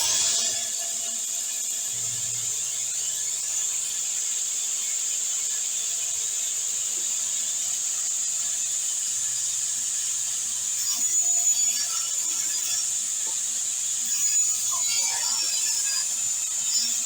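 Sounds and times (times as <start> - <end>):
table saw hum and whine: 0.0 - 17.0.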